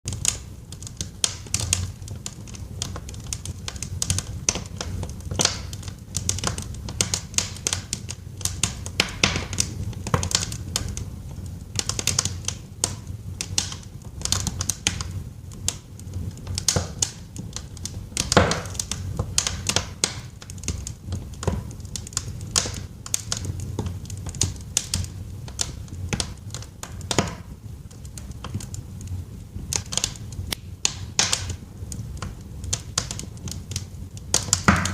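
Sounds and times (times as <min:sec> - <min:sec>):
logs crackling and popping: 0:00.1 - 0:34.9
low rumble of flames: 0:00.1 - 0:34.9.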